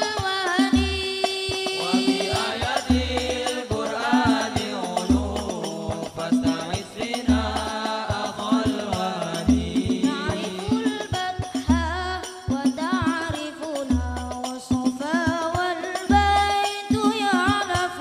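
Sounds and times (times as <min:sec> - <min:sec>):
frame drums fast rhythm: 0:00.0 - 0:18.0
voices singing: 0:00.0 - 0:18.0.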